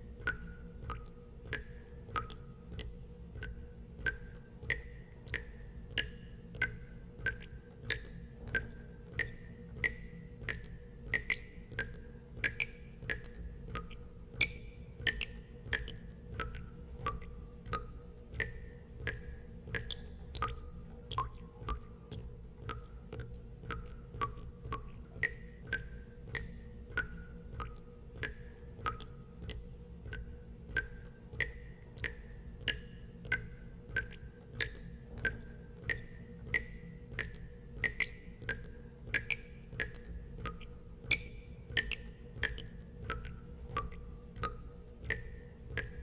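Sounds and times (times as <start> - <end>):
water drops plinking into water: 0.1 - 46.0.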